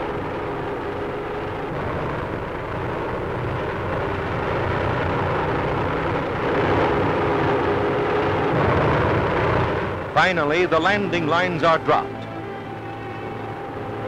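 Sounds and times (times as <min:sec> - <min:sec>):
airship engines droning: 0:00.0 - 0:14.0
film soundtrack hiss: 0:00.0 - 0:14.0.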